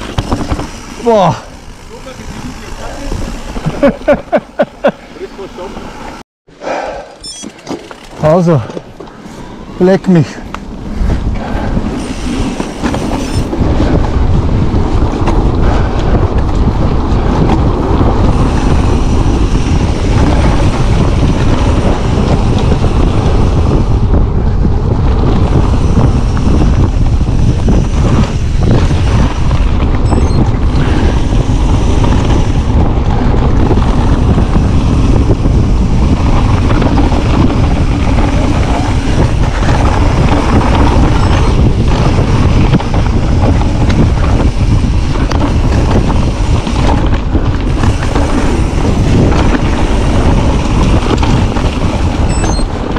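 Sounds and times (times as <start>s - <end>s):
bike tyres on dirt trail: 0.0s - 52.9s
wind on microphone: 8.9s - 52.9s.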